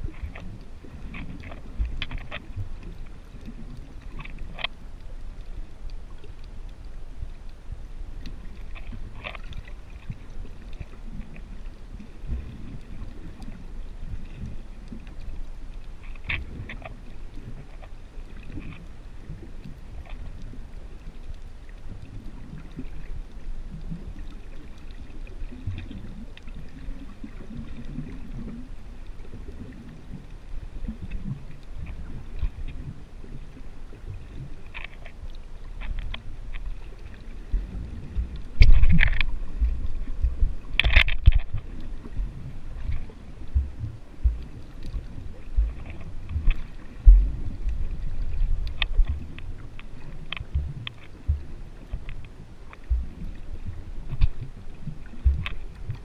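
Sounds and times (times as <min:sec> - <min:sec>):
muffled underwater water rumble: 0:00.0 - 0:56.0
faint clicks: 0:00.1 - 0:56.0.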